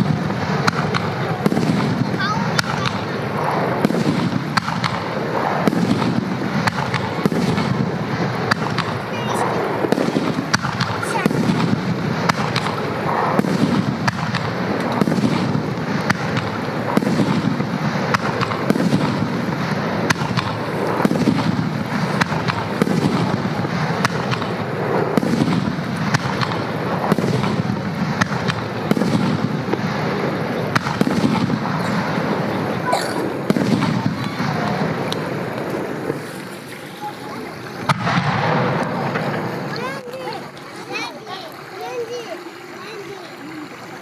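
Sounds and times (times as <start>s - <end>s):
deep rumbling of fireworks: 0.0s - 44.0s
fireworks bangs and crackles: 0.0s - 44.0s.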